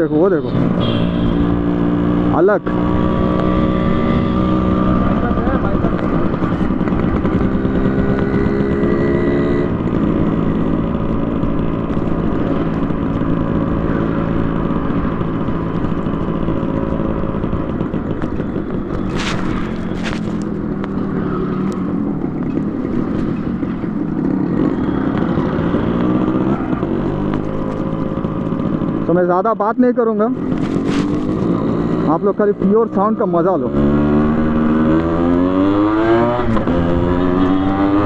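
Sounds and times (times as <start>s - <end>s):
two-stroke motorcycle engine: 0.0s - 38.0s.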